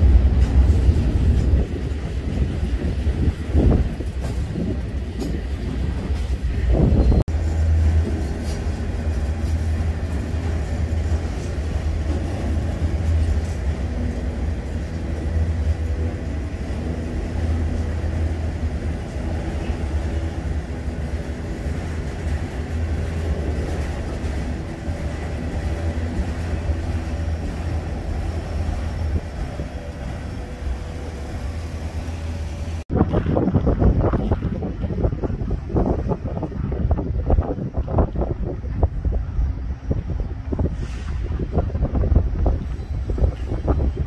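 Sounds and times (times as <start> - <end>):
freight train wheels rumbling on rail: 0.0 - 44.0.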